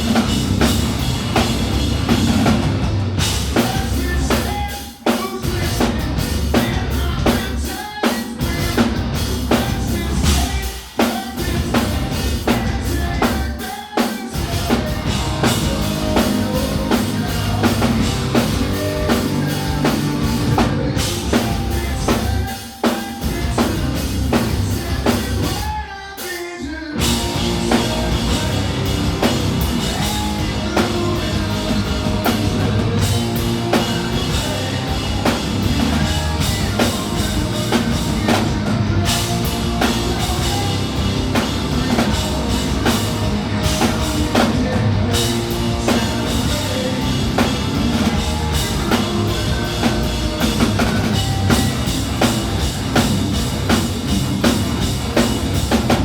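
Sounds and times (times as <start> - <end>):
hard rock band playing: 0.0 - 56.0
person singing: 3.6 - 52.3.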